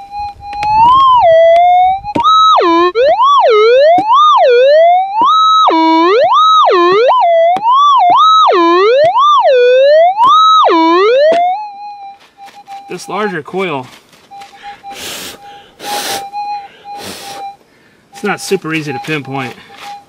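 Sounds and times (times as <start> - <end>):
metal detector warbling signal: 0.0 - 13.6, 14.3 - 17.6, 18.2 - 20.0
metal detector threshold tone: 0.0 - 20.0.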